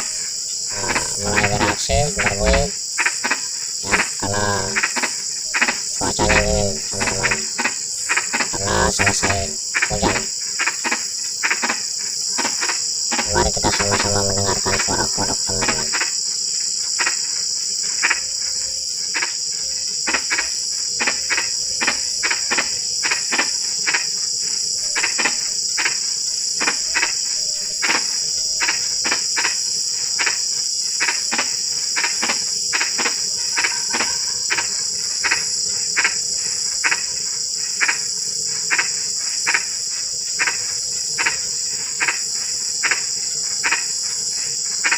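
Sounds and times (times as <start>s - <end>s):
crickets chirping: 0.0s - 44.9s
frogs croaking: 0.0s - 44.9s.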